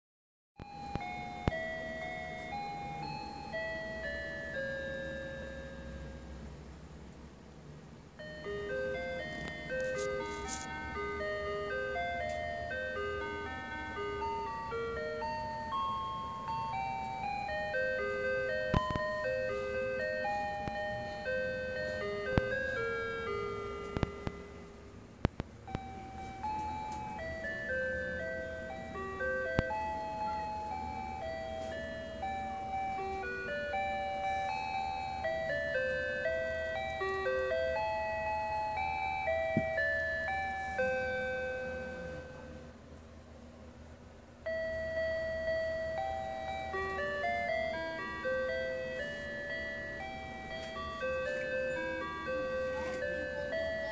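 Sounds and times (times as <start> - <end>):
electronic chime melody: 0.6 - 6.4, 8.2 - 24.8, 25.7 - 42.7, 44.4 - 53.9.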